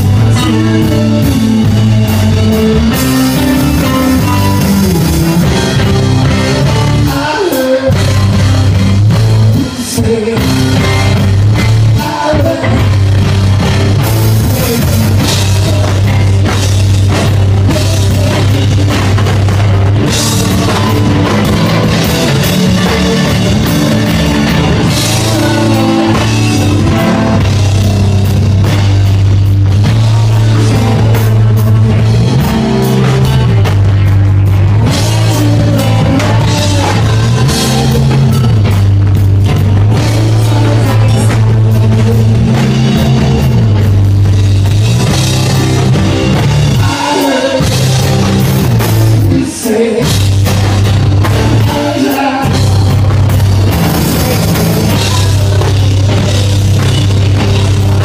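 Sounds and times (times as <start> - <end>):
bass line: 0.0 - 58.0
drum kit with crashing cymbals: 0.0 - 58.0
electric guitars: 0.0 - 58.0.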